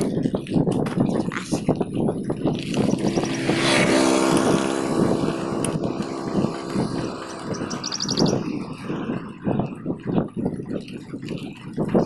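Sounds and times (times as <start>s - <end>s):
wind noise: 0.0s - 12.0s
motorcycle engine cruising: 1.9s - 12.0s.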